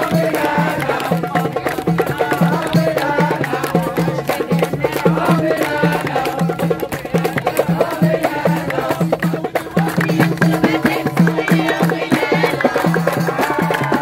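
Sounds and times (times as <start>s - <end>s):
crowd singing along: 0.0s - 14.0s
drum beat: 0.0s - 14.0s
hand claps: 0.0s - 14.0s.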